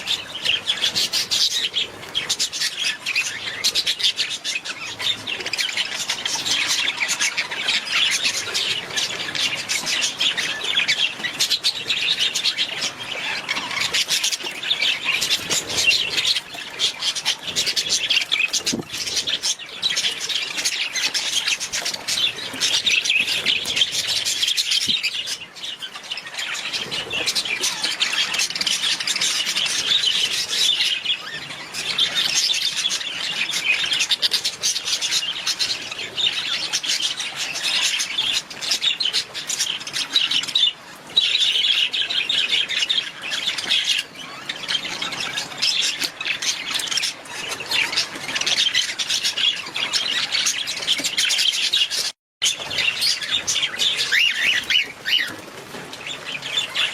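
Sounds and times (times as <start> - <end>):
budgerigars chattering and chirping: 0.0 - 56.9.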